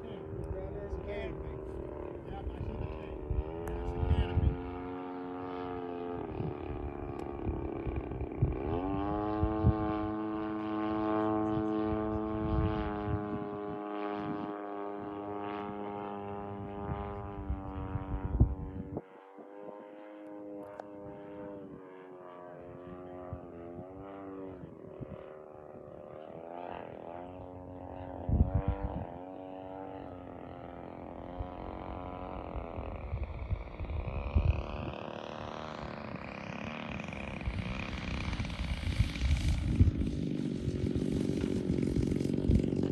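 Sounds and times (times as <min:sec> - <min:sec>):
model plane engine and propeller: 0:00.0 - 0:42.9.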